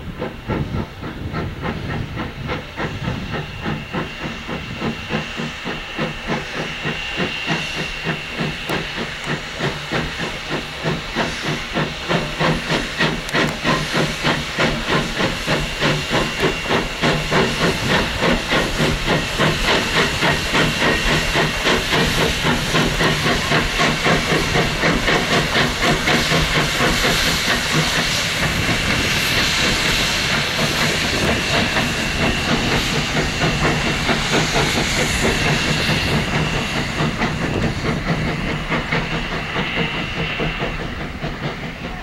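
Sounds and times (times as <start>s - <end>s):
loud steam hiss: 0.0s - 42.0s
steam locomotive exhaust chuffs: 0.0s - 42.0s.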